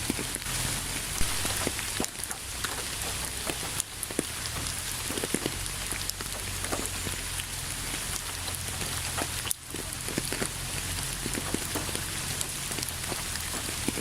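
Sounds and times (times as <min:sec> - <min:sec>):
rain hissing: 0:00.0 - 0:14.0
raindrops ticking on a surface: 0:00.0 - 0:14.0.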